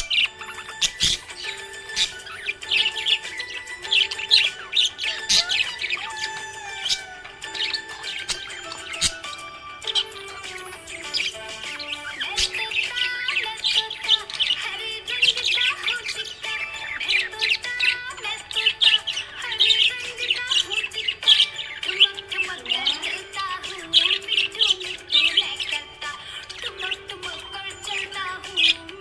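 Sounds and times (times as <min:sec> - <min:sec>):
background music: 0:00.0 - 0:29.0
budgie chirping: 0:00.0 - 0:29.0.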